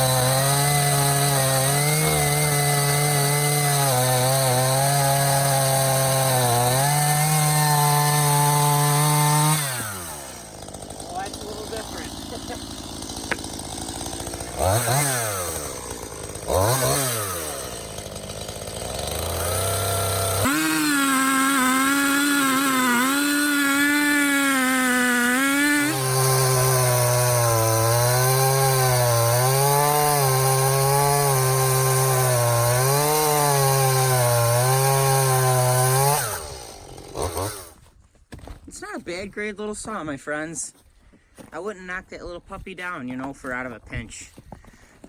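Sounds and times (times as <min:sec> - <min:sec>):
chainsaw revving: 0:00.0 - 0:37.8
chainsaw cutting log: 0:00.0 - 0:45.0.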